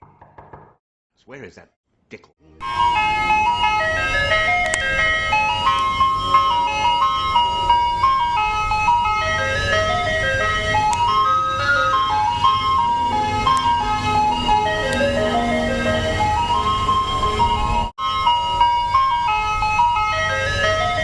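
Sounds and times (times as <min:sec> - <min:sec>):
ice cream truck chime melody: 0:02.6 - 0:21.0
truck engine rumble: 0:02.6 - 0:21.0.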